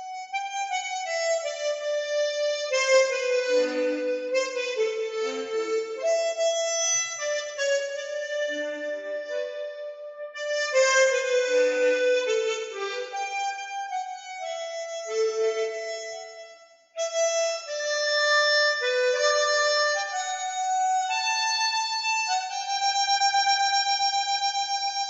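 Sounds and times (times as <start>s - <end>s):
harmonica playing slow melody: 0.0s - 25.0s.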